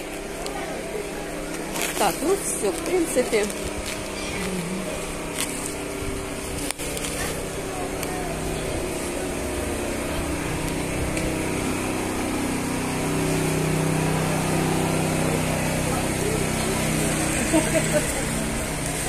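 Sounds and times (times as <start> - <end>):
noisy hubbub: 0.0 - 19.0
shoppers' voices: 0.0 - 19.0.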